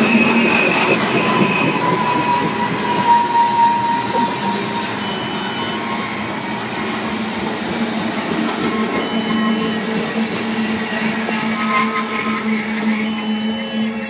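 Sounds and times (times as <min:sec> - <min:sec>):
freight cars rolling on rails: 0:00.0 - 0:14.0
high wheel squeal: 0:00.0 - 0:14.0.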